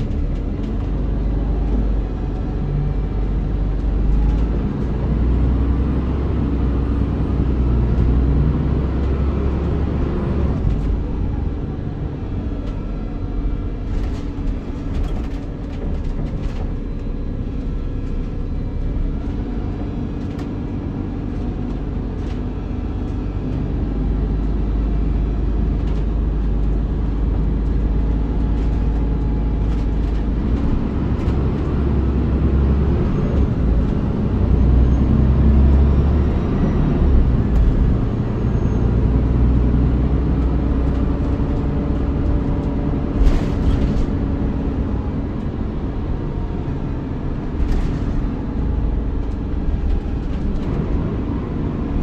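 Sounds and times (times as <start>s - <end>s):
bus diesel engine drone: 0.0s - 52.0s.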